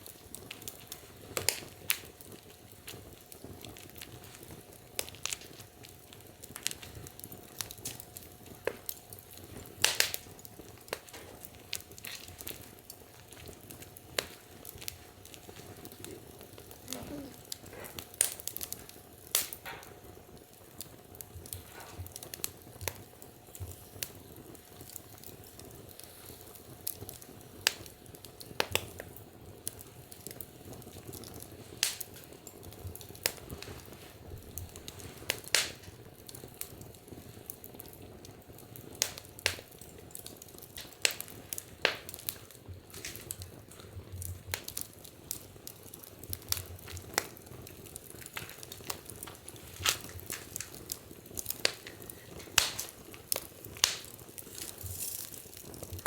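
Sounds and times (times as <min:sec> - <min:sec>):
soft steady hiss: 0:00.0 - 0:56.0
wood fire crackling: 0:00.0 - 0:56.0.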